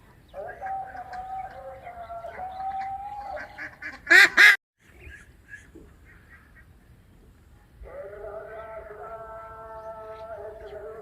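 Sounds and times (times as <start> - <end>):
ducks and geese calling: 0.0 - 7.0, 7.8 - 11.0.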